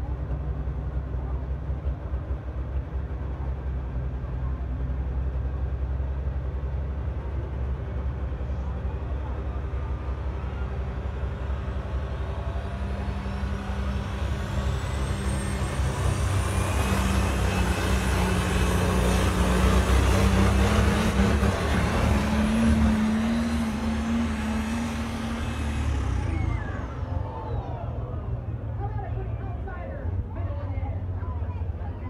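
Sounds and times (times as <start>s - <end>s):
diesel truck engine at full throttle: 0.0s - 32.0s.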